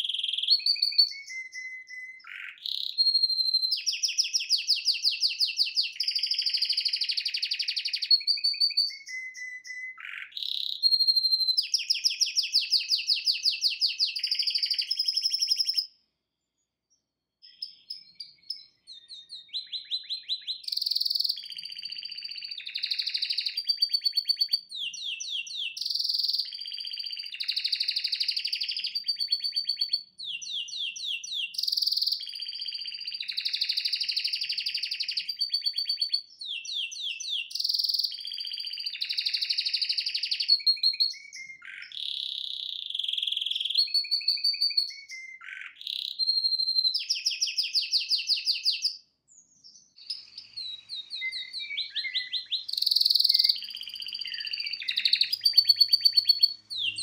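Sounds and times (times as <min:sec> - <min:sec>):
canary singing: 0:00.0 - 0:16.0, 0:17.4 - 0:57.0.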